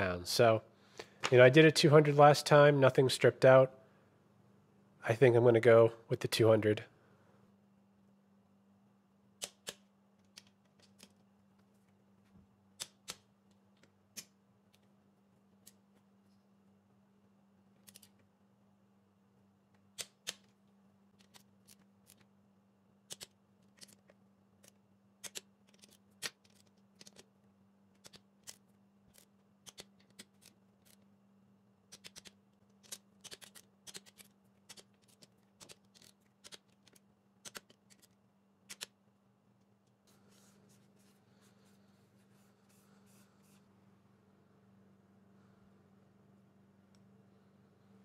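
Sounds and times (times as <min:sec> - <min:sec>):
faint low hum: 0:00.0 - 0:48.0.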